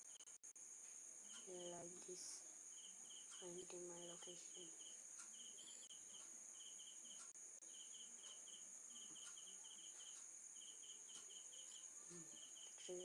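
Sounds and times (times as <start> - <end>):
crickets chirping: 0.0 - 13.0
steady high-pitched hiss: 0.0 - 13.0.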